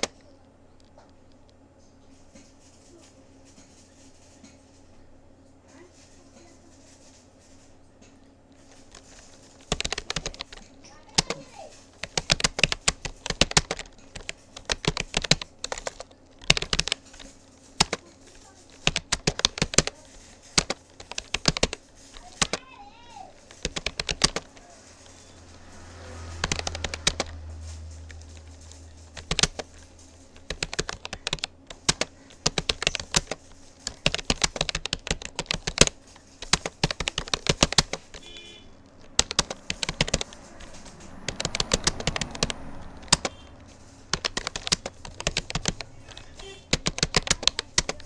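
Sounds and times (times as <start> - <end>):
computer keyboard typing: 0.0 - 4.7, 5.7 - 48.0.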